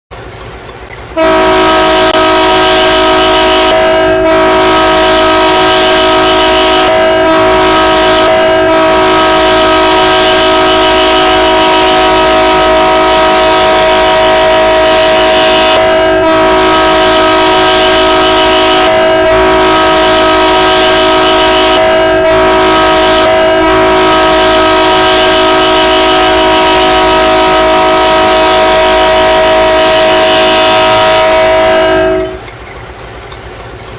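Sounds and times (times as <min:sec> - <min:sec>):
locomotive air horn blast: 0:01.2 - 0:32.5.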